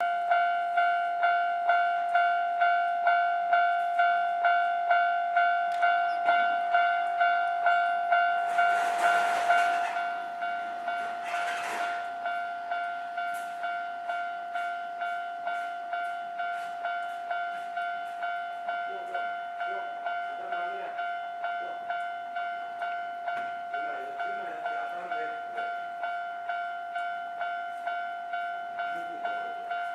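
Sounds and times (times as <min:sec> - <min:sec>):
level crossing warning bell: 0:00.0 - 0:29.9.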